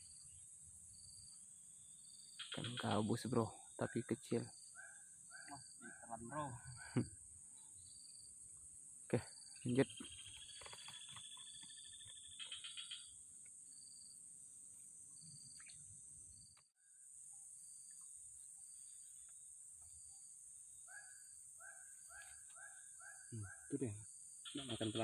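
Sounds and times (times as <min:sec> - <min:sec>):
insect chirps: 0:00.0 - 0:25.0
insects buzzing: 0:00.0 - 0:25.0.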